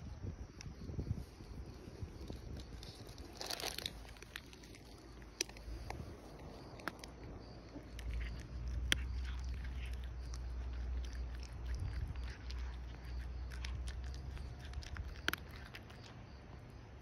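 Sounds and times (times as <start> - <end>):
cat crunching dry kibble: 1.1 - 16.2.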